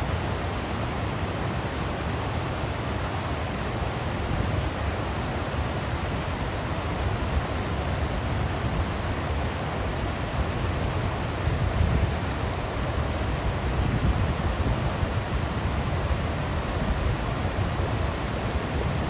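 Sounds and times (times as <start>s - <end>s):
stream water rushing over rocks: 0.0s - 19.0s.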